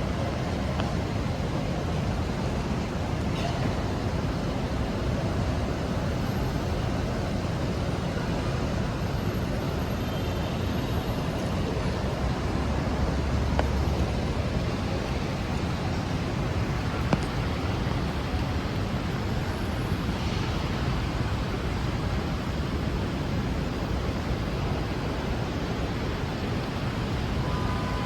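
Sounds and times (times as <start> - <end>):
city traffic hiss and hum: 0.0 - 28.0.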